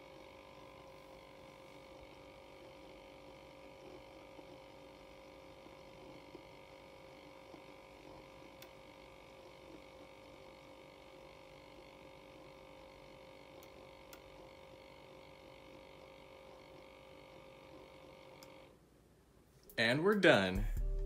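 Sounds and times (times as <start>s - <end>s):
milk frother motor hum: 0.0s - 18.8s.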